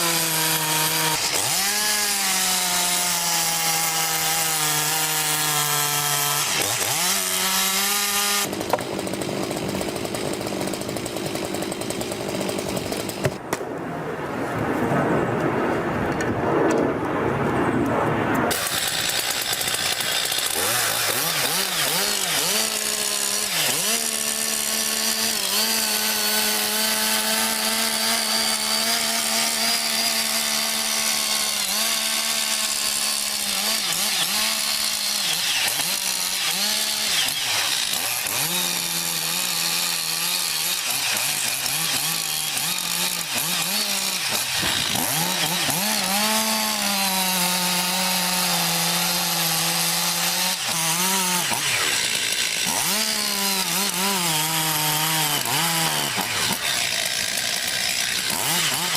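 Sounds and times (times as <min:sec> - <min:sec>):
chainsaw cutting wood: 0:00.0 - 0:13.6, 0:18.5 - 0:58.9.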